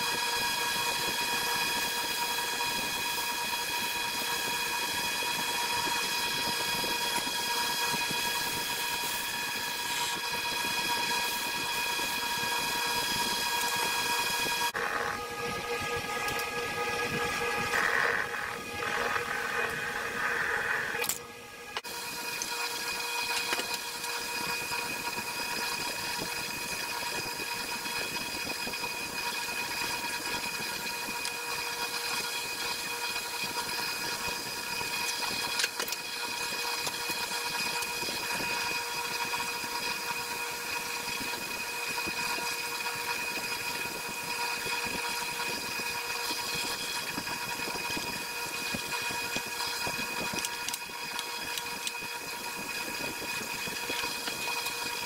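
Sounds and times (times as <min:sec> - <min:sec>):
wood lathe humming: 0:00.0 - 0:55.0.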